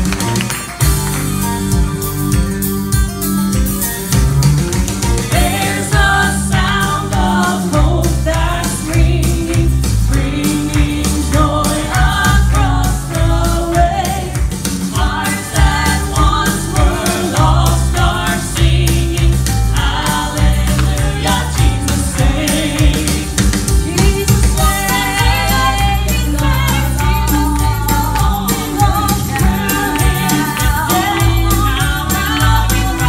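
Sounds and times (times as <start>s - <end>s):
instrumental accompaniment with bass: 0.0s - 33.0s
vocal trio singing in harmony: 5.3s - 33.0s.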